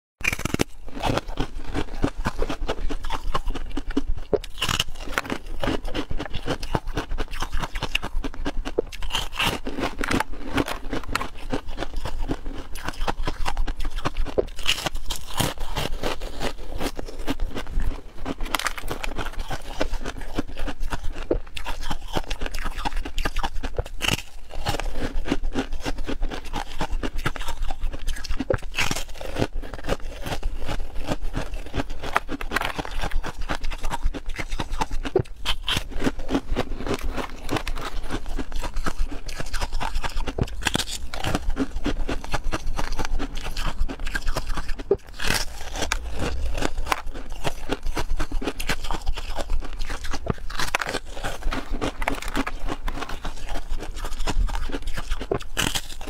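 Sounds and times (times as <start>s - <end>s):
person crunching ice cream: 0.2s - 56.0s.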